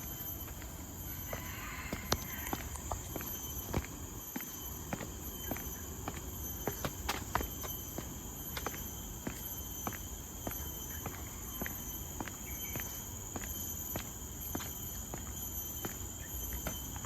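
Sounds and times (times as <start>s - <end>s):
footsteps walking: 0.0s - 17.0s
high-pitched insect drone: 0.0s - 17.0s.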